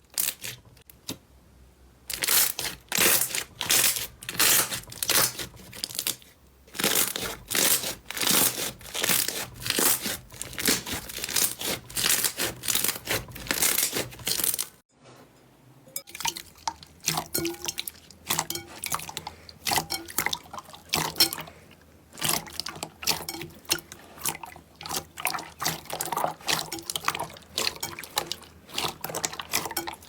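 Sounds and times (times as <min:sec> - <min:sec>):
slime squelching: 0:02.1 - 0:14.8, 0:16.0 - 0:30.0.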